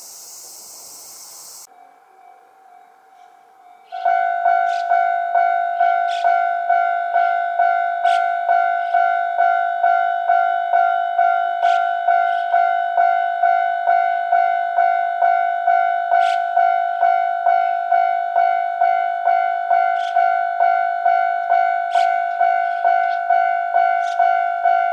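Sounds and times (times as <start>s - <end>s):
level crossing bell dinging: 4.0s - 24.9s.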